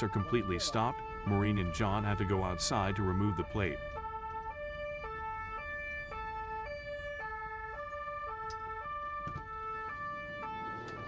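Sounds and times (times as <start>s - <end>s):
two-tone emergency siren: 0.0s - 11.0s.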